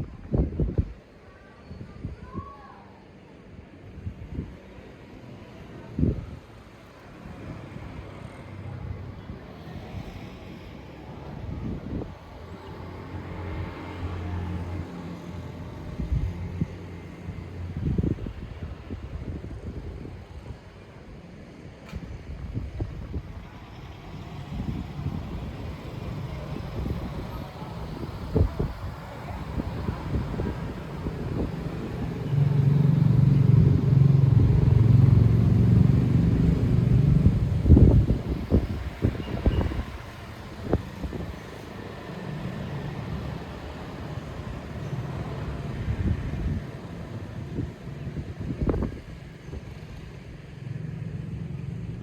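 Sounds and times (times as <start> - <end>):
wind buffeting microphone: 0.0 - 2.5, 5.8 - 20.9, 21.9 - 52.0.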